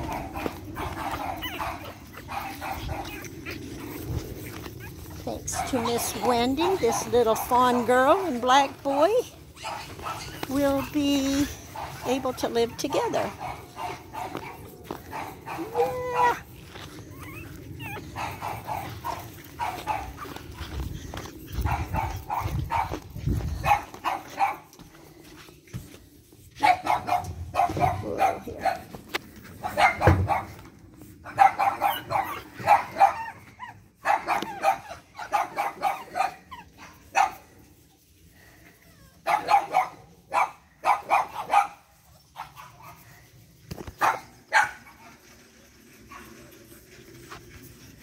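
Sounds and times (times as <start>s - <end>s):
puppies play-barking and yapping: 0.0s - 48.0s.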